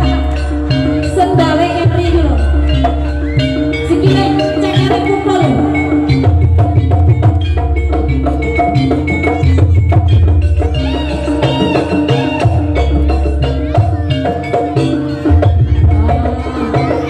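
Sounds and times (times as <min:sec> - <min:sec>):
gong-chime and metallophone melody: 0:00.0 - 0:17.0.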